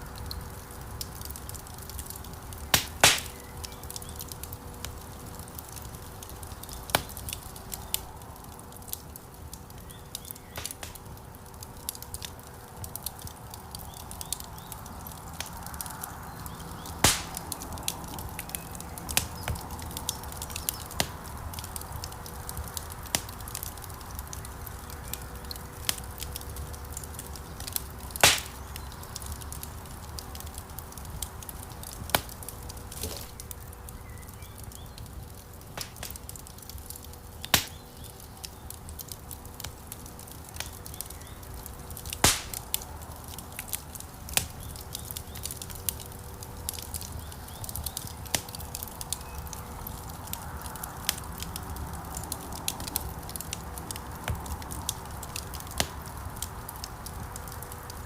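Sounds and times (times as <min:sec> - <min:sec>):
low rumble of flame: 0:00.0 - 0:58.0
wood fire crackling: 0:00.0 - 0:58.0.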